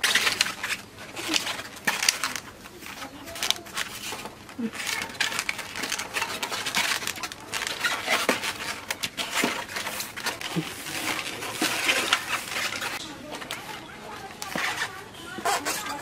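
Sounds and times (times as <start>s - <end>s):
styrofoam boxes scraping and knocking: 0.0s - 16.0s.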